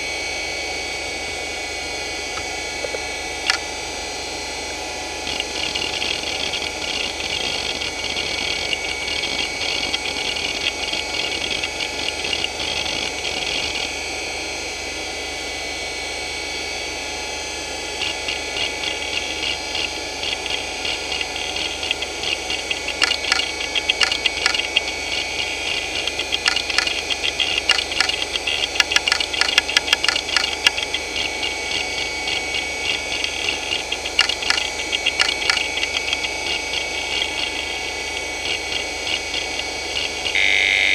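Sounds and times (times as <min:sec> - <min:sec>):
hard drive spinning whine: 0:00.0 - 0:40.9
hard drive heads ticking: 0:02.3 - 0:03.7, 0:05.2 - 0:13.9, 0:18.0 - 0:40.9.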